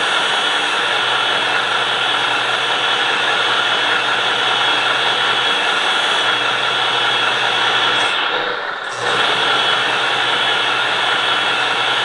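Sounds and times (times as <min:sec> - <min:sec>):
hydraulic pump running: 0:00.0 - 0:12.0.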